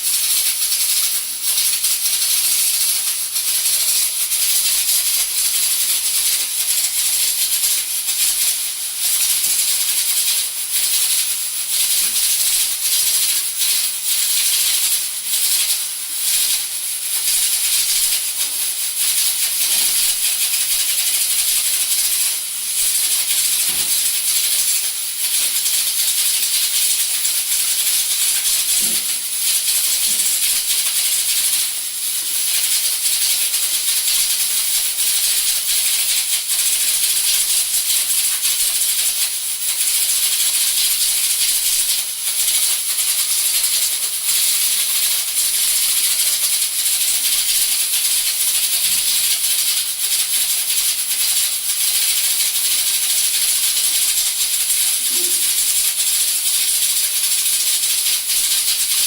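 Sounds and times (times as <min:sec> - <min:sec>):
pressure cookers hissing steam: 0:00.0 - 0:59.0.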